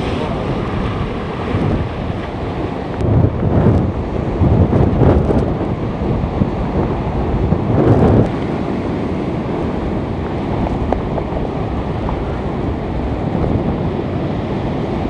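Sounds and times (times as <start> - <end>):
heavy surf roaring: 0.0 - 15.0
wind buffeting microphone: 0.0 - 15.0.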